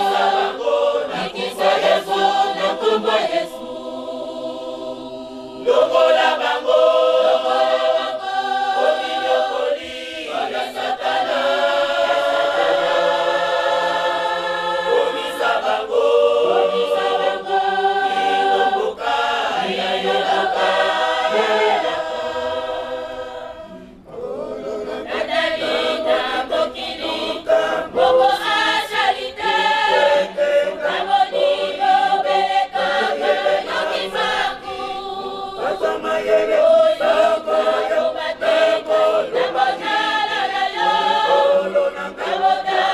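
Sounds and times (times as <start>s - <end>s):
mixed choir singing a hymn: 0.0s - 42.9s.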